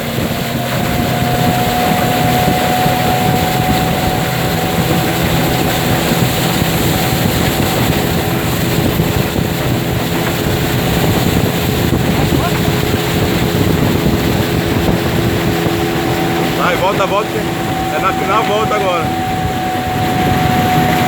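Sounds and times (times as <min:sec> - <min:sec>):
motorboat engine at full throttle: 0:00.0 - 0:21.0
rushing water noise: 0:00.0 - 0:21.0.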